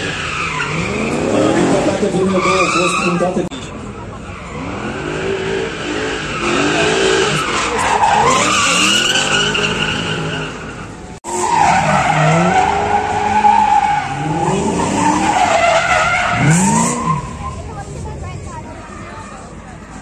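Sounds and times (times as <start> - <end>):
car engines revving: 0.0 - 20.0
tyres screeching: 0.0 - 20.0.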